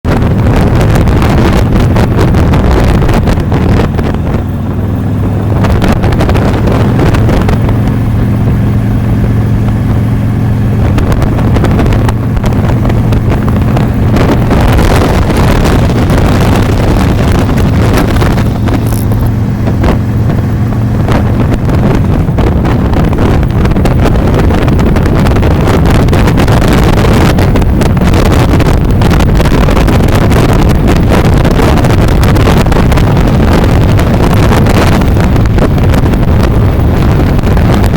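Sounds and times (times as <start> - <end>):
motorcycle engine hum: 0.0 - 37.9
wind rush on microphone: 0.0 - 37.9.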